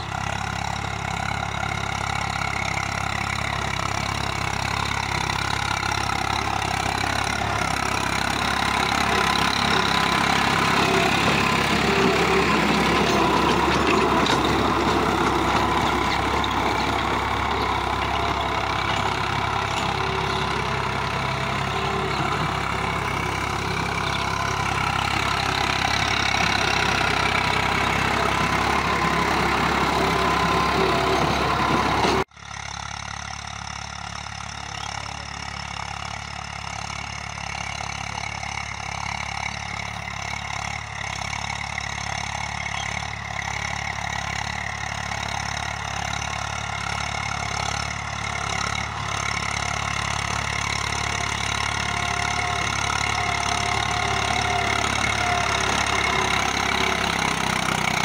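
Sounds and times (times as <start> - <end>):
distant tractor engine: 0.0 - 58.0
tractor diesel engine under load: 0.0 - 58.0.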